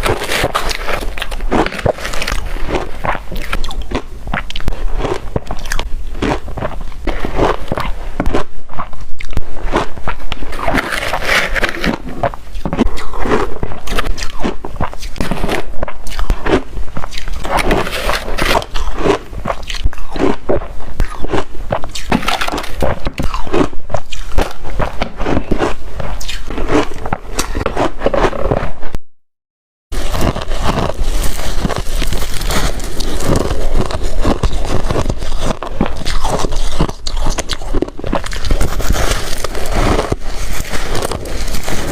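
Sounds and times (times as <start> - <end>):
crunching ice being chewed: 0.0 - 28.9, 30.0 - 41.9.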